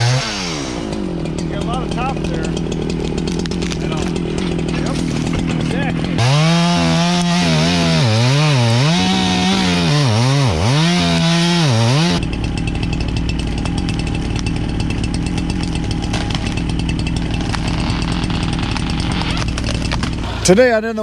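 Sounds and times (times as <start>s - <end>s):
chainsaw cutting at high revs: 0.0s - 20.8s.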